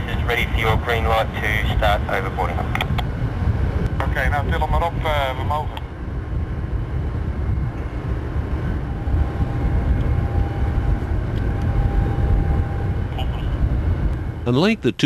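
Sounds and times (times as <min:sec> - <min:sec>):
faint steady whine: 0:00.0 - 0:15.0
low mechanical rumble: 0:00.0 - 0:15.0.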